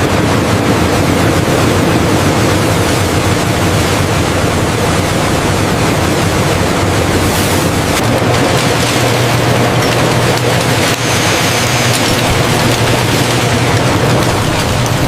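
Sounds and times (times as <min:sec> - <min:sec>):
boat engine hum: 0:00.0 - 0:15.0
rushing wind: 0:00.0 - 0:15.0
sea noise: 0:00.0 - 0:15.0.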